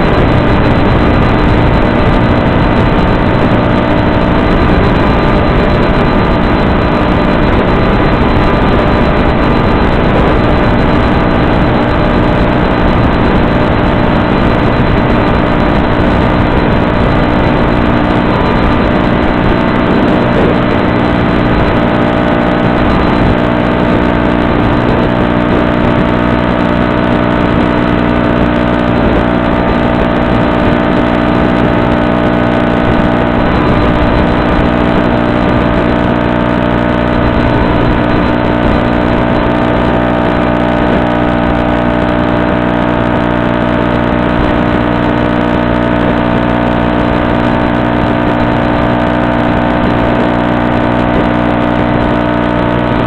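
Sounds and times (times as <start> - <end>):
model plane motor whine: 0.0 - 53.0.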